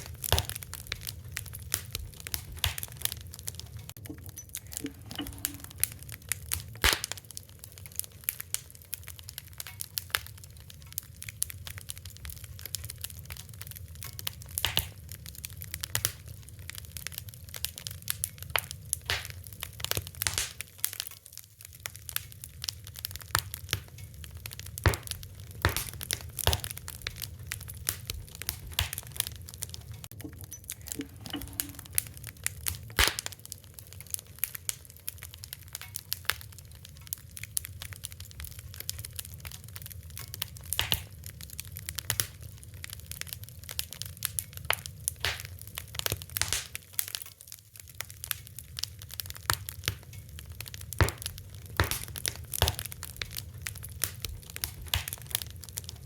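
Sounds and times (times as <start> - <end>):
fire pops and snaps: 0.0 - 56.0
wood fire crackling: 0.0 - 56.0.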